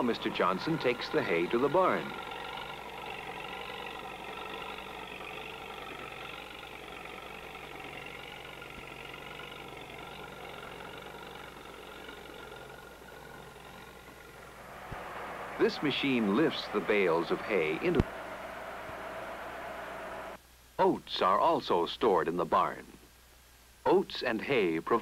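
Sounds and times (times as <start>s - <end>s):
tractor engine running: 0.0s - 20.4s.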